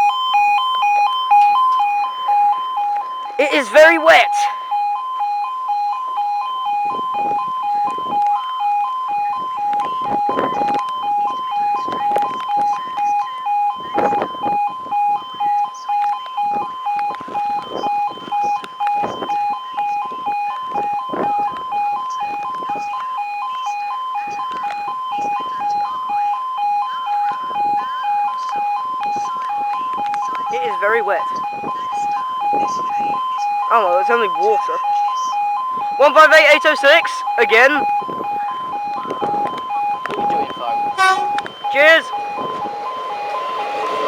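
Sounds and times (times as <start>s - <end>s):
two-tone level crossing alarm: 0.0s - 44.0s.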